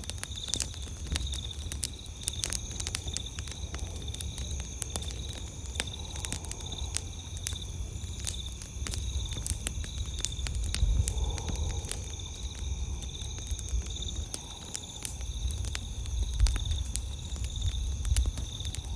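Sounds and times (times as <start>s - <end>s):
campfire crackling and popping: 0.0s - 18.9s
insects chirping: 0.0s - 18.9s.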